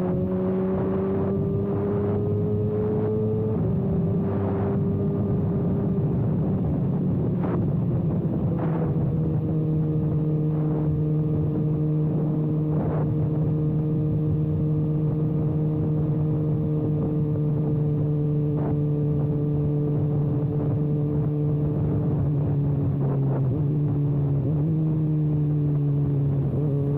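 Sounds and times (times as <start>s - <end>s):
motorcycle engine droning: 0.0s - 26.9s.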